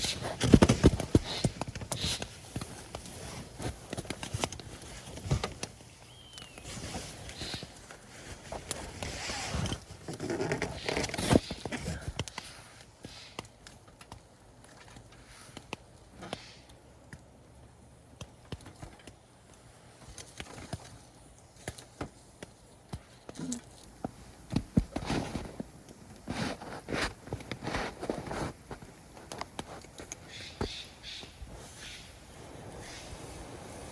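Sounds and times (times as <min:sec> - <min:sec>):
rustling and scraping handling: 0:00.0 - 0:16.6, 0:18.2 - 0:33.9
campfire crackling and popping: 0:00.0 - 0:33.9.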